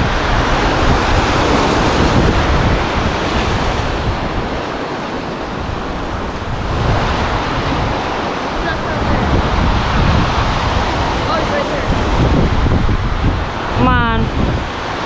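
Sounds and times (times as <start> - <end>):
lake waves washing in: 0.0 - 15.0
wind buffeting microphone: 0.0 - 15.0.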